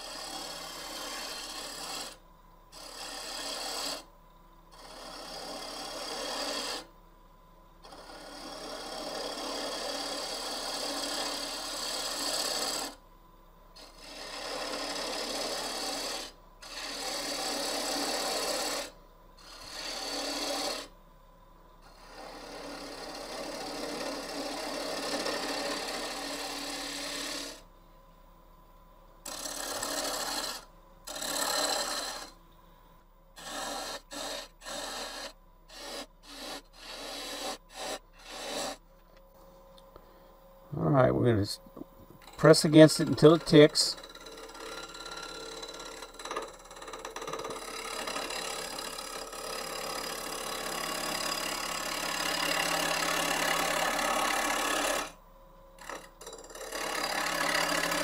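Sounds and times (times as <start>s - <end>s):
lathe tool scraping wood: 0.0s - 4.1s, 4.7s - 6.9s, 7.8s - 13.0s, 13.8s - 20.9s, 21.8s - 27.7s, 29.2s - 32.4s, 33.4s - 38.8s, 42.2s - 55.2s, 55.8s - 58.0s
faint steady hum: 0.0s - 58.0s.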